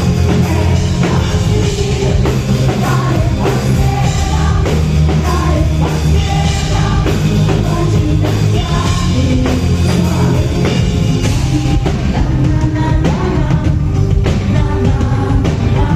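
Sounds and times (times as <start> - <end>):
live rock band playing: 0.0 - 15.9
person singing: 0.0 - 15.9.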